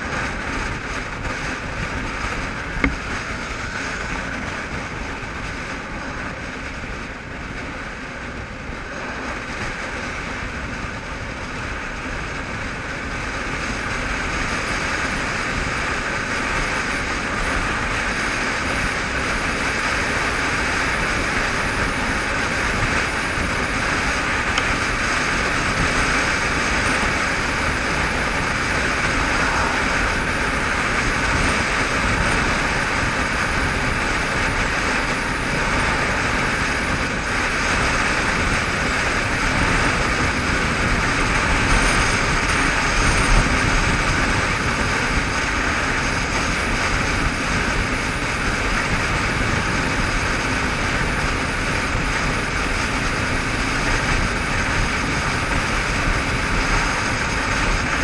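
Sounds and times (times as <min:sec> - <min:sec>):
motorcycle engine running: 0:00.0 - 0:58.0
road roar: 0:00.0 - 0:58.0
wind rush: 0:00.0 - 0:58.0.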